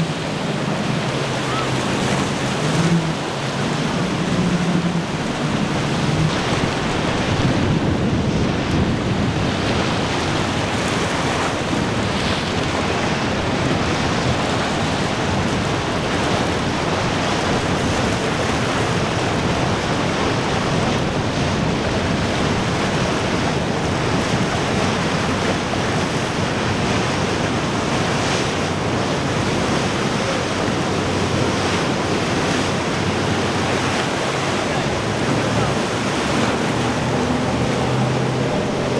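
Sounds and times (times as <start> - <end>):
surf and breaking waves: 0.0 - 38.9
wind buffeting microphone: 0.0 - 38.9.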